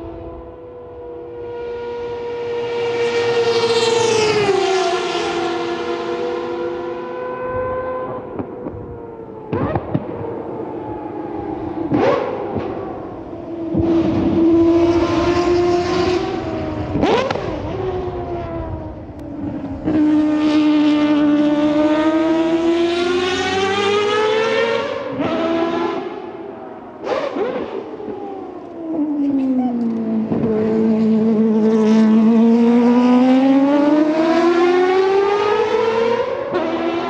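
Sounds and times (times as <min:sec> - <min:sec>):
rotary engine wailing: 0:00.0 - 0:37.0.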